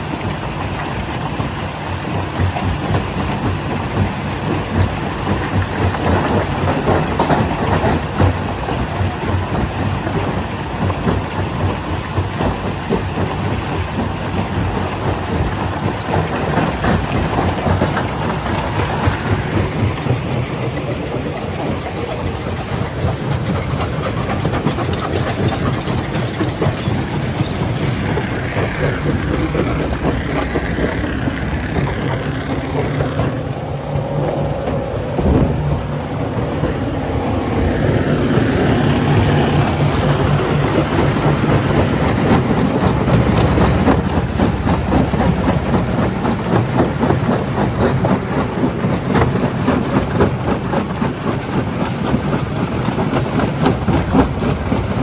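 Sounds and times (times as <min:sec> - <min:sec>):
heavy machinery drone: 0:00.0 - 0:55.0.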